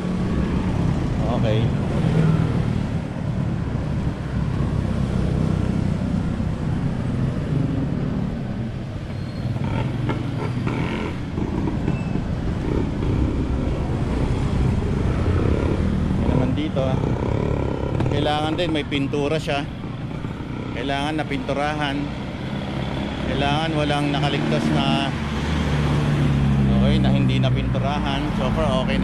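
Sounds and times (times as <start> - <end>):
traffic engines rumbling: 0.0 - 29.0.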